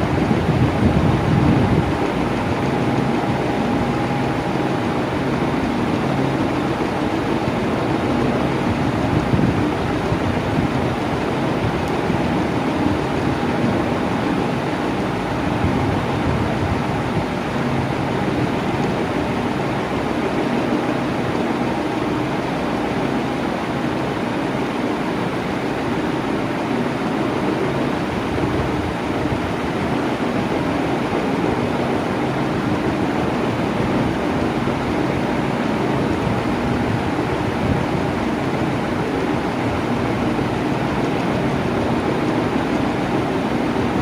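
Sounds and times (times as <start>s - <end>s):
electric fan air rushing: 0.0s - 44.0s
faint motor hum: 0.0s - 44.0s.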